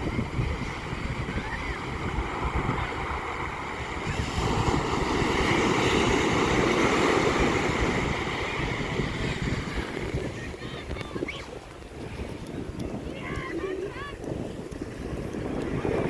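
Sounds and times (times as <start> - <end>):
ocean waves breaking: 0.0 - 16.0
wind buffeting microphone: 0.0 - 16.0.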